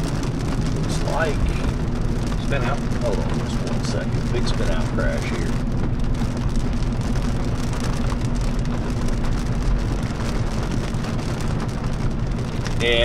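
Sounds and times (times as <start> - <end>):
heavy rain on car windshield: 0.0 - 13.0
low engine and road hum: 0.0 - 13.0.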